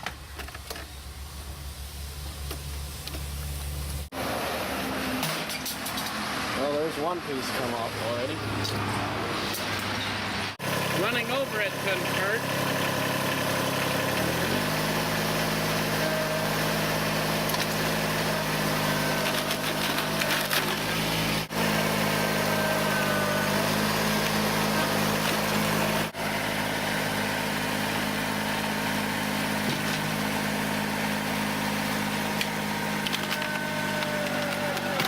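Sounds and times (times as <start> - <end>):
diesel tractor engine running: 5.9 - 35.0.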